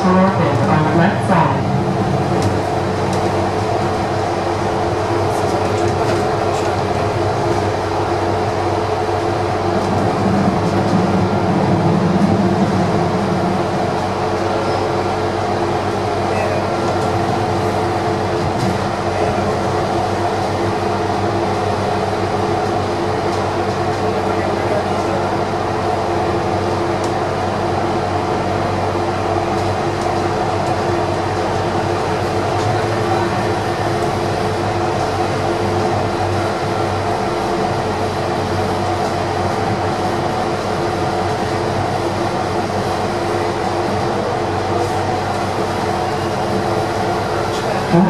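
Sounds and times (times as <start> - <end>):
train drive hum: 0.0 - 48.0
train wheels rumbling on rail: 0.0 - 48.0.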